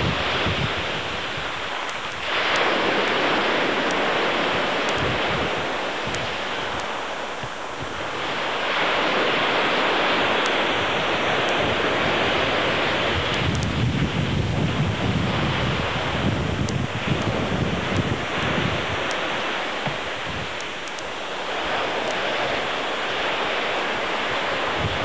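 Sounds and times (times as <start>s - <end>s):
waves breaking on shore: 0.0s - 25.0s.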